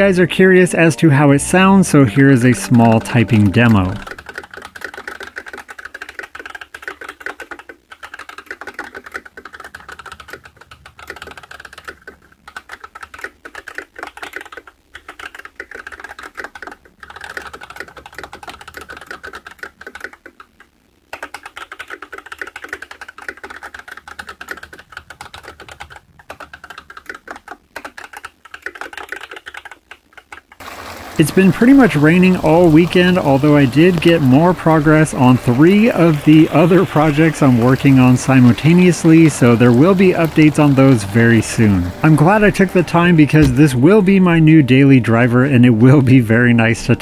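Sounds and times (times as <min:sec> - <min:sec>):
mechanical keyboard typing: 0:01.9 - 0:20.5, 0:21.1 - 0:30.6, 0:31.3 - 0:45.2.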